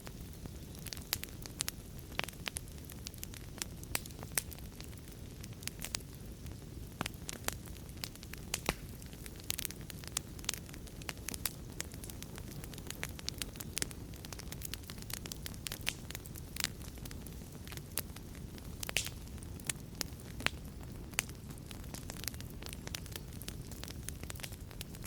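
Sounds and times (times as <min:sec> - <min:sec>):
fire pops and snaps: 0:00.0 - 0:25.0
wood fire crackling: 0:00.0 - 0:25.0.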